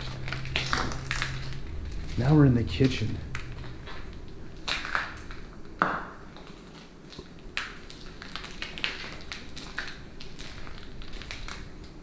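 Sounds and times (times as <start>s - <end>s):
footsteps crunching paint flakes: 0.0s - 5.8s, 6.4s - 12.0s.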